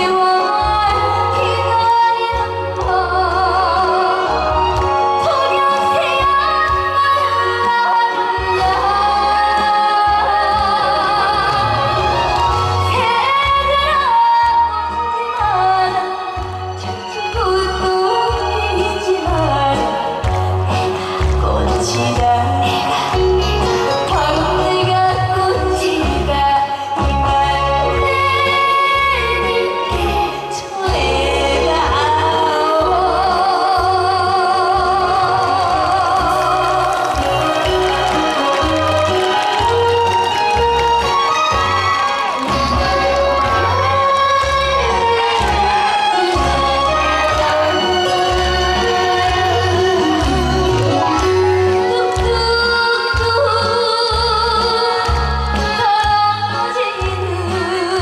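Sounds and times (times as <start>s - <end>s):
amplified backing music with bass beat: 0.0s - 58.0s
live band playing: 0.0s - 58.0s
woman singing with vibrato: 0.0s - 58.0s.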